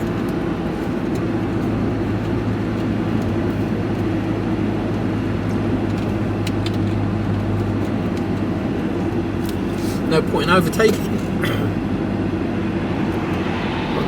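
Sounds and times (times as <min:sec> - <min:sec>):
vehicle engine and road drone: 0:00.0 - 0:14.0.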